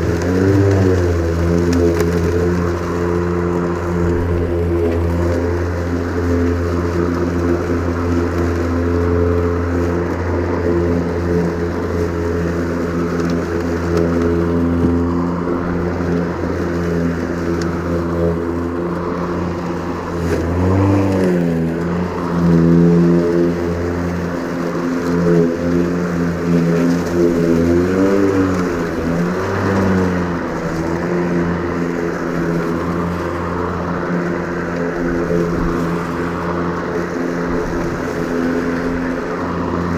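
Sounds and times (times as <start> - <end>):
electric lawn mower humming: 0.0 - 39.9.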